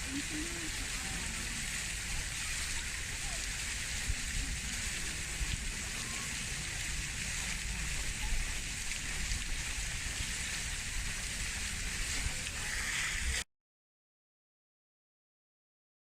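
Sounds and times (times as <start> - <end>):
steady hiss with low rumble: 0.0 - 13.4.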